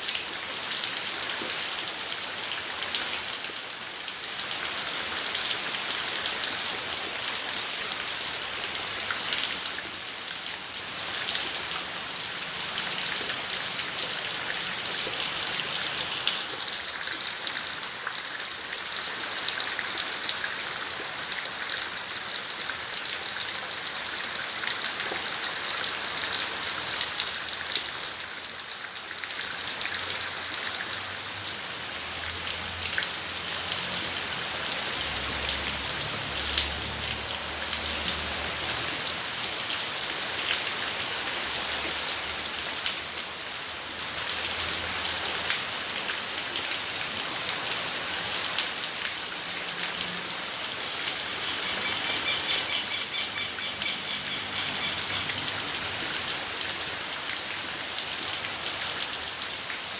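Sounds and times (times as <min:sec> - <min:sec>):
raindrops pattering: 0:00.0 - 0:59.9
steady rain falling: 0:00.0 - 0:59.9.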